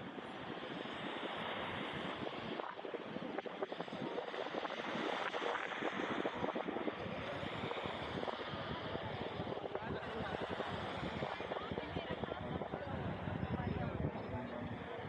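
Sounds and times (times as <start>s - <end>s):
surf washing onto beach: 0.0s - 15.0s
wind on microphone: 0.0s - 15.0s.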